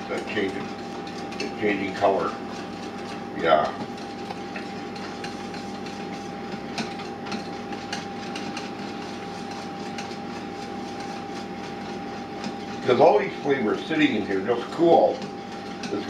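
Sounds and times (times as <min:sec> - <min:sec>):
steady background hum: 0:00.0 - 0:16.0
whisk clicking against metal bowl: 0:00.0 - 0:16.0
whisk stirring thick sauce: 0:00.0 - 0:16.0.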